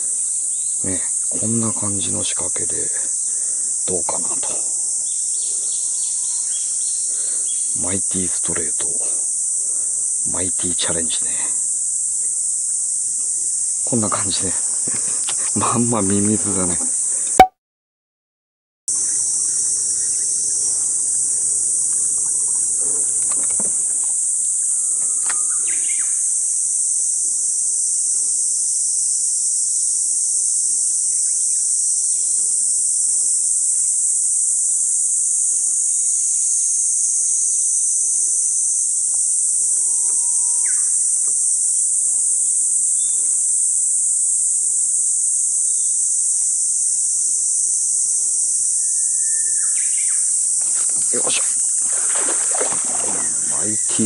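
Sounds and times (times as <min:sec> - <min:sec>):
cicadas droning: 0:00.0 - 0:17.4, 0:18.9 - 0:54.0.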